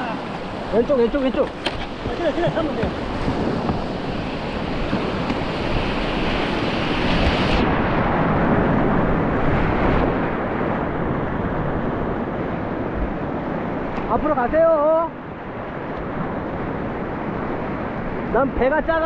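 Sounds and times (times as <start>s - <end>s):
river rushing through rapids: 0.0s - 19.0s
wind noise on microphone: 1.3s - 19.0s.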